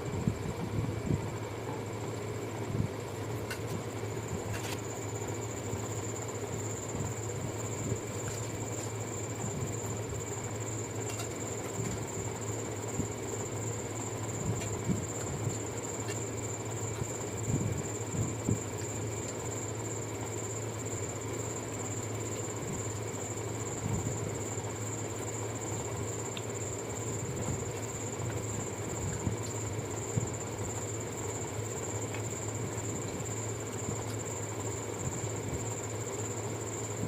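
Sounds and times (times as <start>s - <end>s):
faint high whine: 0.0s - 37.0s
mechanical hum: 0.0s - 37.0s.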